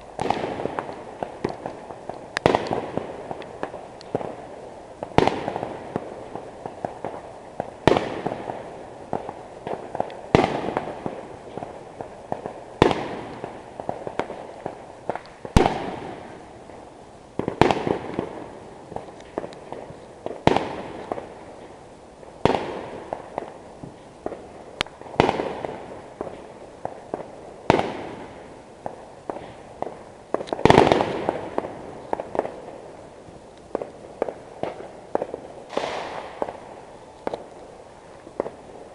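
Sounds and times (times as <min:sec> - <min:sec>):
fireworks banging: 0:00.0 - 0:38.9
fireworks popping and crackling: 0:00.0 - 0:38.9.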